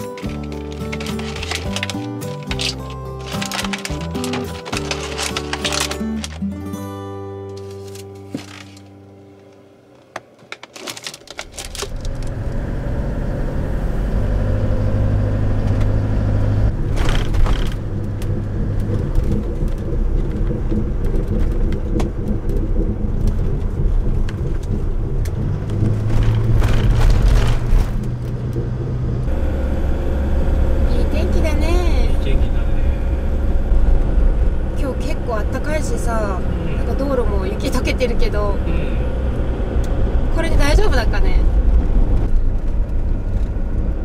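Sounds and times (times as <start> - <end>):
vehicle engine and road rumble: 0.0 - 44.0.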